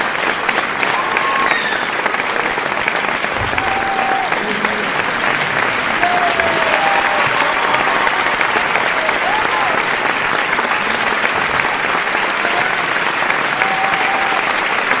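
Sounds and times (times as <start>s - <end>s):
crowd applauding: 0.0s - 15.0s
people calling out: 0.8s - 14.4s.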